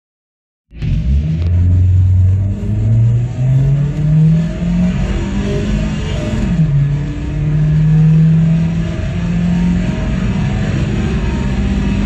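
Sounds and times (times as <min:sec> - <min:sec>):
car engine at full throttle: 0:00.7 - 0:12.0.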